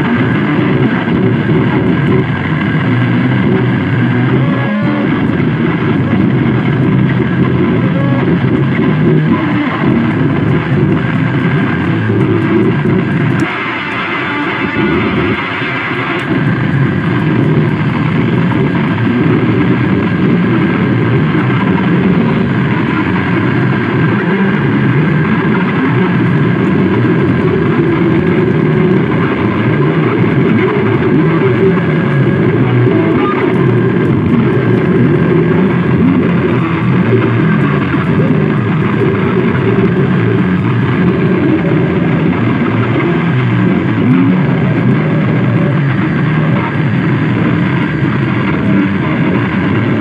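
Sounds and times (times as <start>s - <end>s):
distorted electronic noise music: 0.0s - 50.0s.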